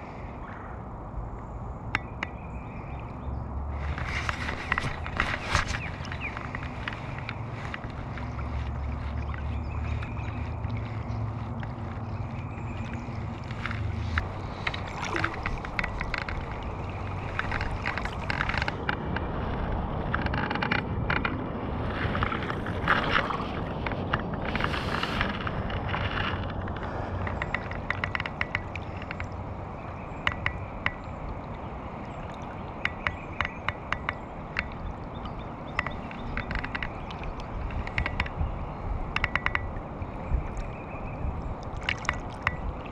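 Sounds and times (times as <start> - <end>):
wind rumble on microphone: 0.0 - 42.9
river current gurgling: 1.7 - 42.9.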